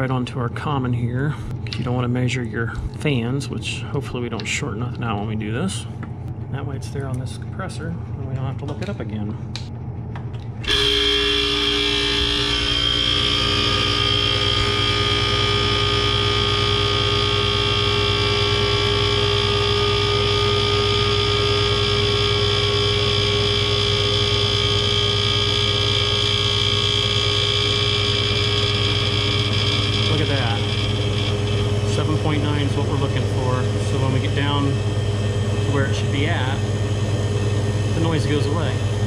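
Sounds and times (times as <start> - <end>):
freezer compressor running: 0.0 - 39.0.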